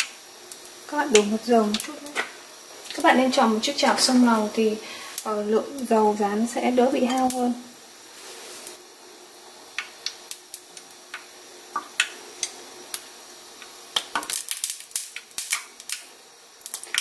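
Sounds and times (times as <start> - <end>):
oil crackling in frying pan: 0.0 - 17.0.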